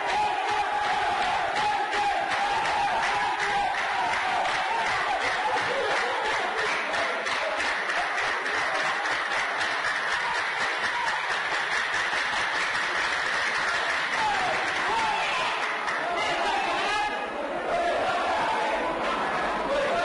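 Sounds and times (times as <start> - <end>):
crowd clapping: 0.0 - 20.0.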